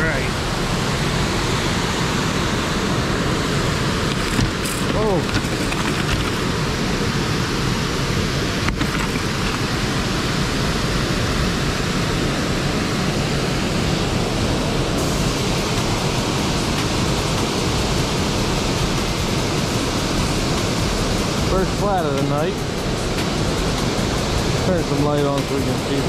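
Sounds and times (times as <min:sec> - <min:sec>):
water rushing from a dam: 0:00.0 - 0:26.0.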